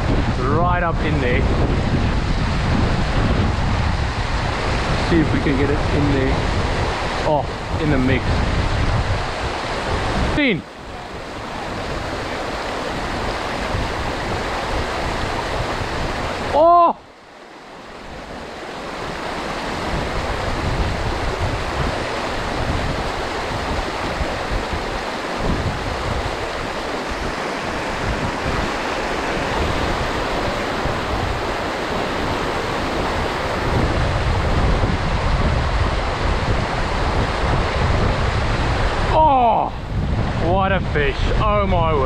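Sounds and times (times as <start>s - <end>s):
stream water rushing: 0.0s - 42.0s
wind buffeting microphone: 0.0s - 42.0s.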